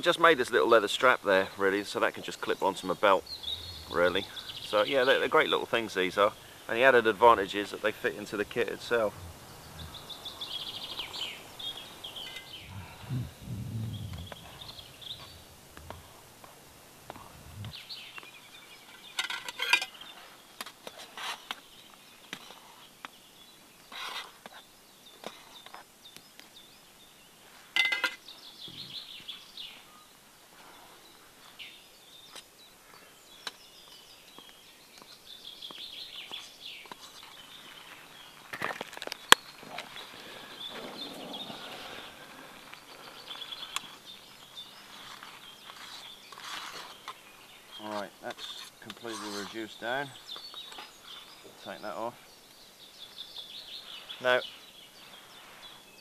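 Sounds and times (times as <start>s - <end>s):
birds singing and calling: 0.0s - 56.0s.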